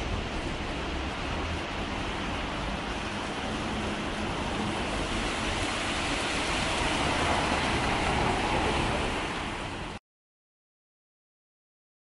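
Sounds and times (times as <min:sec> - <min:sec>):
heavy rain: 0:00.0 - 0:10.0
rushing floodwater: 0:00.0 - 0:10.0.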